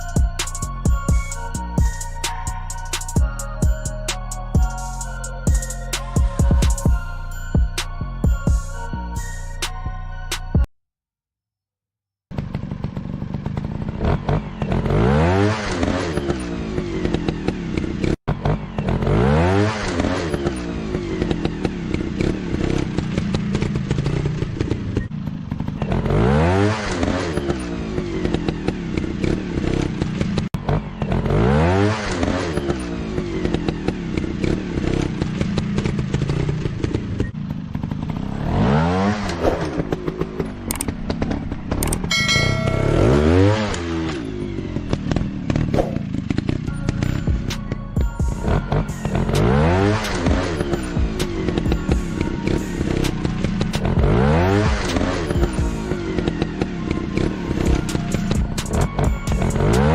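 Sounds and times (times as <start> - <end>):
motorcycle engine revving: 0.0 - 9.3, 12.3 - 59.9.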